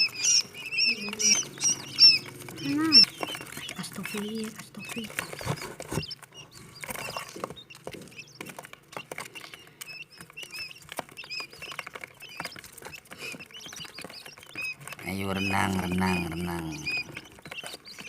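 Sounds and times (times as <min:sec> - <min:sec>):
quail chicks peeping: 0:00.0 - 0:18.0
small clicks and scratches: 0:00.0 - 0:18.0.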